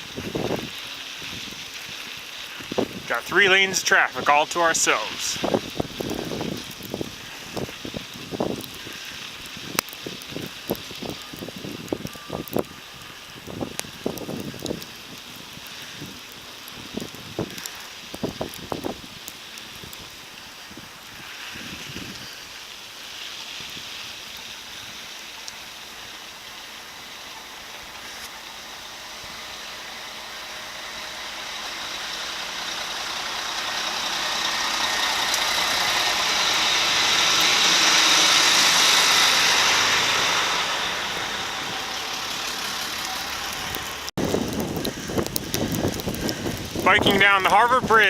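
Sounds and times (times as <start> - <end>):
vehicle passing on snowy road: 0.0 - 48.0.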